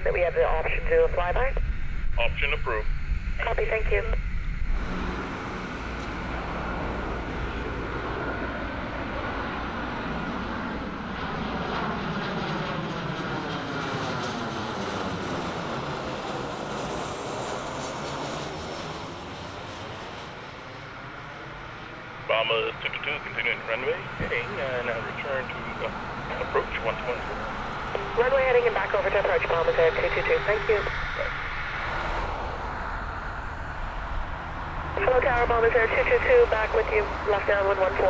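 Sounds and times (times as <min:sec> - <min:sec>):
jet airliner passing overhead: 0:00.0 - 0:38.0.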